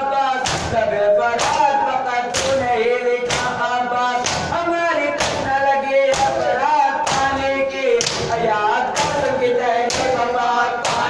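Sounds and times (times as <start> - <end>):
people chanting in unison: 0.0 - 11.0.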